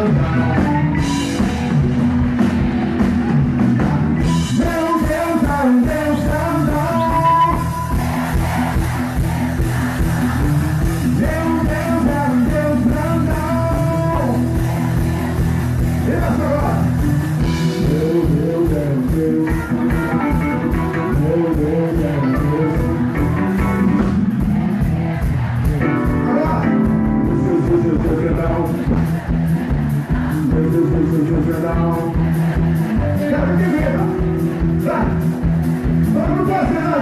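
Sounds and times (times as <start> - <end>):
upbeat band music: 0.0 - 37.0.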